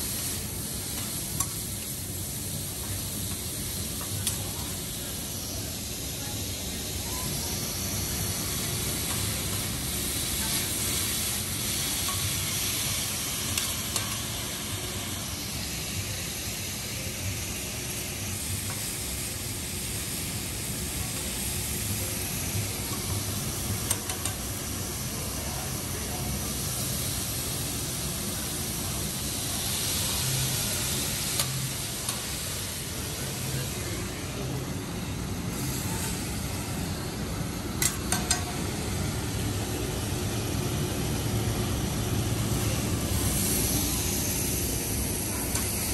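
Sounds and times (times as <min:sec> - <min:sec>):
food sizzling on griddle: 0:00.0 - 0:45.9.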